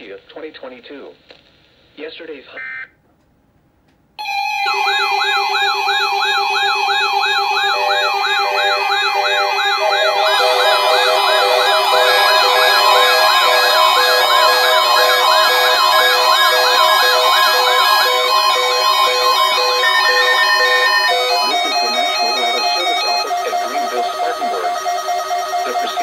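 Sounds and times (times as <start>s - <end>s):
beeping alarms: 4.2s - 26.0s
siren-like rising alarm sweeps: 4.2s - 26.0s
steady alarm tones: 4.2s - 26.0s.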